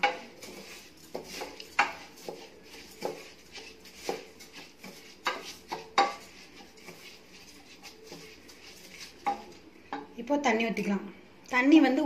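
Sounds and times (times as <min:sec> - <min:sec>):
wooden spatula scraping steel pot: 0:00.0 - 0:10.1.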